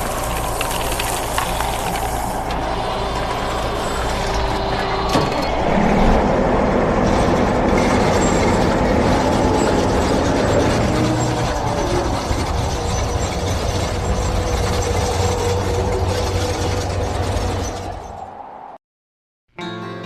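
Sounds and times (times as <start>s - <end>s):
vehicle engine clattering: 0.0s - 18.2s.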